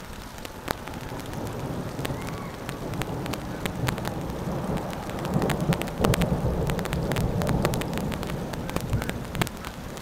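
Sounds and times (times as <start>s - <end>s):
raindrops hitting near microphone: 0.0s - 10.0s
rolling rumble of thunder: 0.4s - 10.0s.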